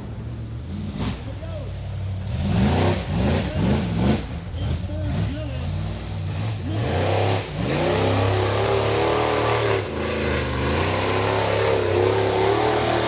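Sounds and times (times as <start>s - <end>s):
buggy engine revving hard: 0.0s - 13.0s.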